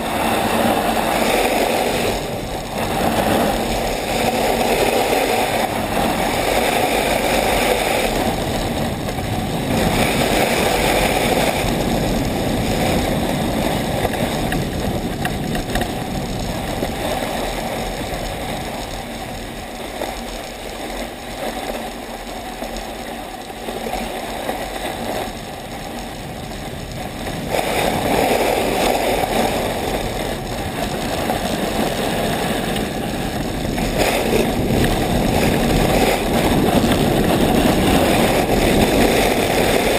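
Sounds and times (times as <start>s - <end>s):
runners sliding over snow: 0.0s - 39.9s
wind buffeting microphone: 0.0s - 39.9s.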